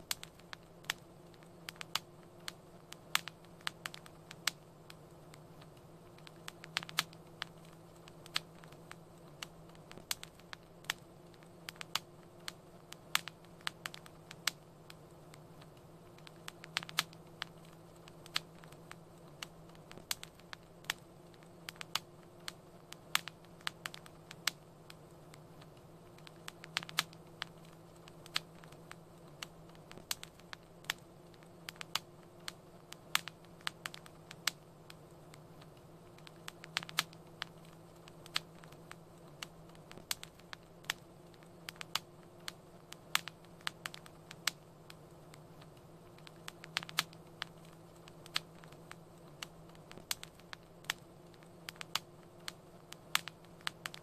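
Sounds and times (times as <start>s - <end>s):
faint low hum: 0.0s - 54.0s
wood fire crackling: 0.0s - 54.0s.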